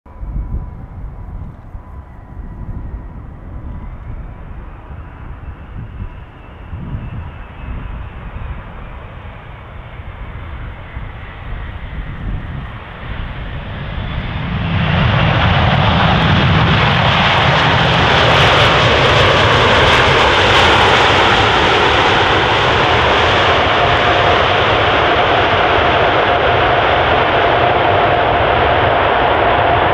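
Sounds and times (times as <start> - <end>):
jet engines rumbling: 0.1 - 29.9.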